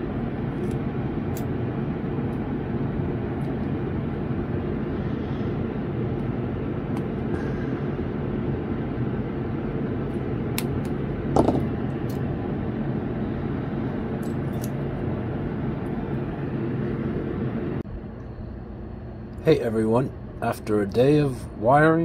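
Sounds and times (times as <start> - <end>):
droning hum: 0.0 - 22.0.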